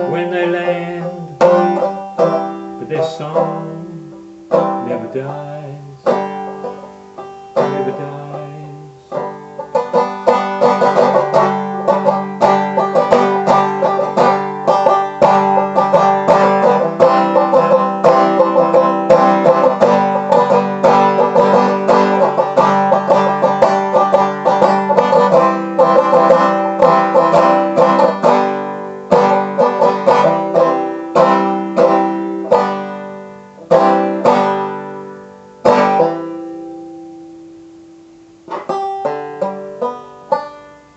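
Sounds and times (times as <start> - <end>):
banjo picking: 0.0 - 40.9.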